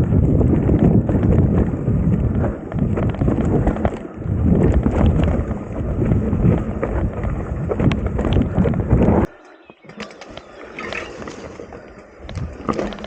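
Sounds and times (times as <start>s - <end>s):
wind buffeting microphone: 0.0s - 9.4s, 10.2s - 13.0s
bike tyres rumbling on dirt trail: 0.0s - 13.0s.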